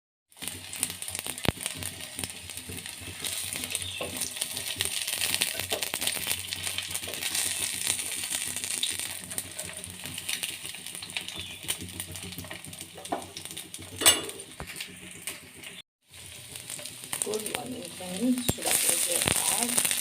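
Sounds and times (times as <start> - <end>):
food sizzling in hot oil: 0.3 - 20.0.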